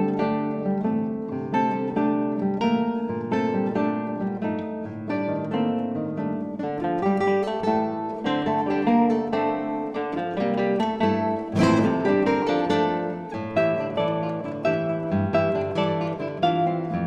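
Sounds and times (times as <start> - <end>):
classical guitars playing: 0.0 - 17.0.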